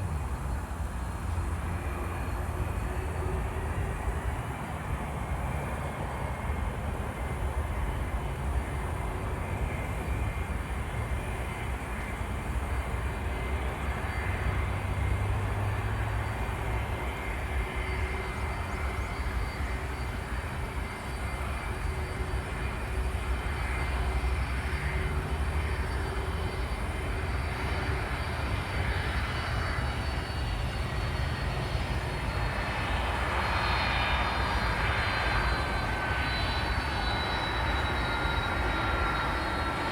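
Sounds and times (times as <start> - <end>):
jet engines rumbling and whining: 0.0 - 39.9.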